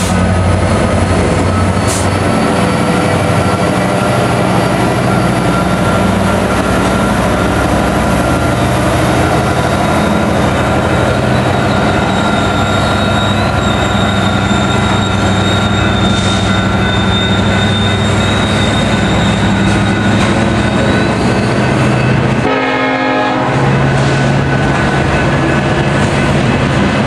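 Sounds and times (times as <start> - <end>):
diesel locomotive engine drone: 0.0 - 27.0
wheels squealing on rails: 0.0 - 27.0.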